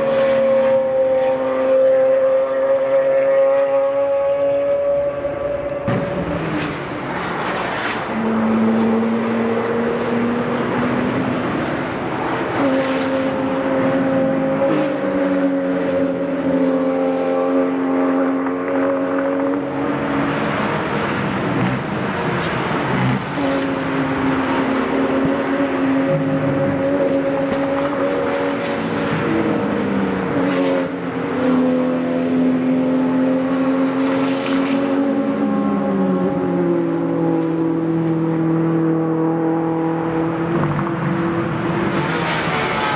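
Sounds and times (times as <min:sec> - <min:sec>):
race car engines accelerating: 0:00.0 - 0:42.9.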